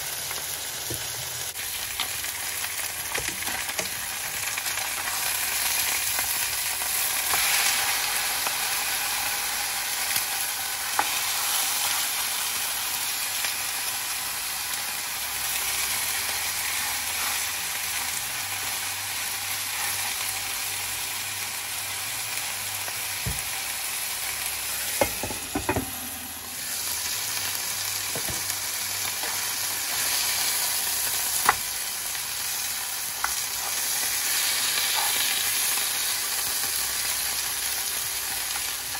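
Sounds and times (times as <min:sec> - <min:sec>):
meat sizzling in a frying pan: 0:00.0 - 0:38.9.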